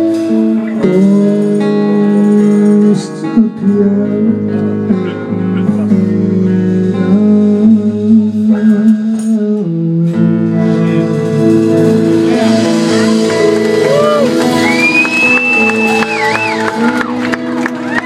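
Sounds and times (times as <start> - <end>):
live band playing guitar chords: 0.0 - 18.0.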